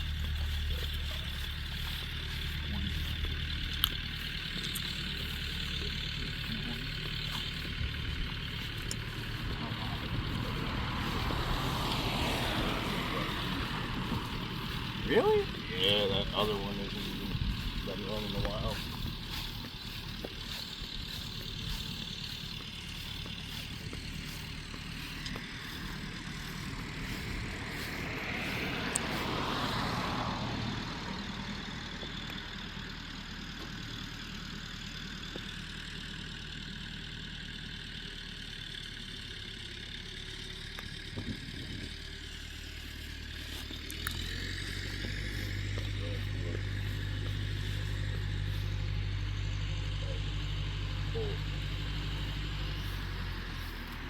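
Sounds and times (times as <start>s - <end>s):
vehicle driving past: 0.0s - 33.4s, 40.1s - 54.0s
engine idling: 0.0s - 54.0s.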